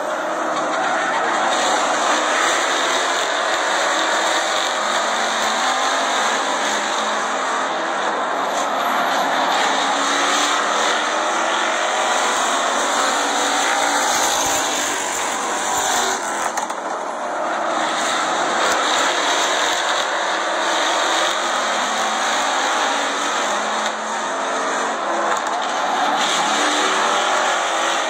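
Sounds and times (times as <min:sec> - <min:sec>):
race car engines: 0:00.0 - 0:28.0.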